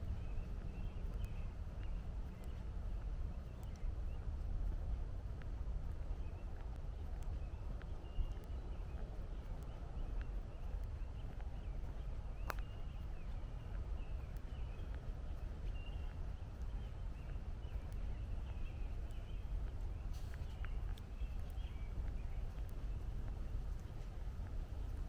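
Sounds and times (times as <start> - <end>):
distant traffic rumble: 0.0 - 25.0
footsteps on woodland trail: 0.0 - 25.0
small birds chirping: 0.0 - 25.0.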